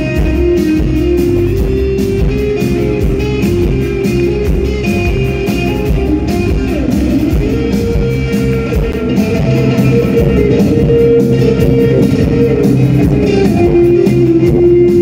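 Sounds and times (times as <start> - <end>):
guitar note bending and sustaining: 0.0 - 15.0
live rock band playing: 0.0 - 15.0.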